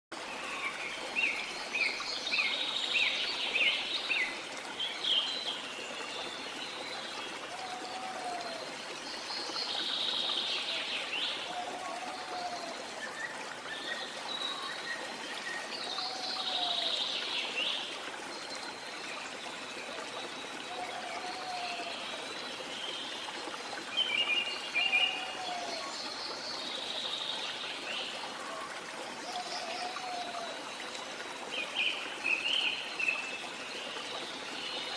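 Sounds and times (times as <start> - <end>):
running water hiss: 0.2 - 34.9.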